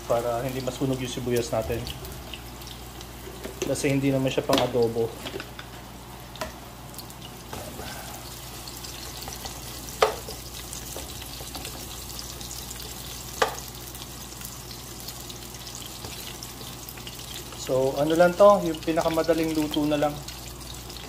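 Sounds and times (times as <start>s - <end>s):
onion and garlic sizzling: 0.0s - 21.0s.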